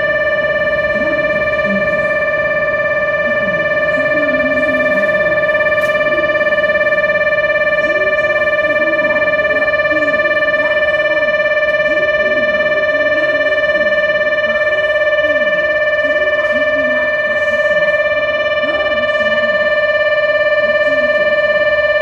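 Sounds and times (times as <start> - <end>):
electronic departure bell tone: 0.0 - 22.0
faint voices: 0.8 - 21.5.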